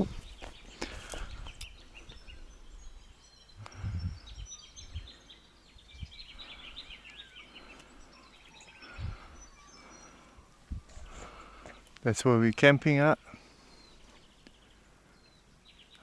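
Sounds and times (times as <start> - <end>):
faint outdoor background noise: 0.0 - 16.0
small birds chirping: 0.0 - 16.0.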